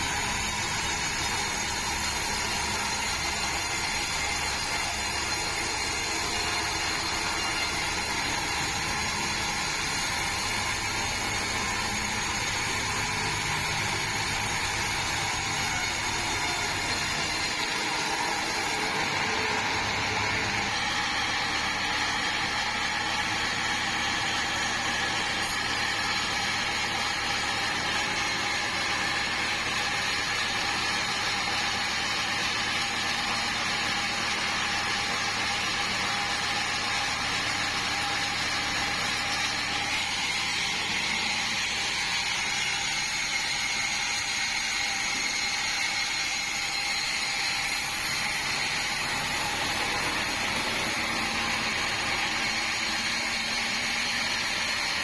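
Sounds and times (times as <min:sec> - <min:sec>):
band sawmill sawing log: 0:00.0 - 0:55.0.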